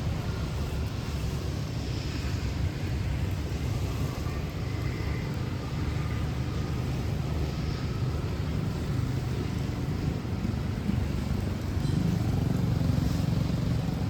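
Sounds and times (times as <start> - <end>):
city road traffic rumble: 0.0 - 14.0
light rain hiss: 0.0 - 14.0.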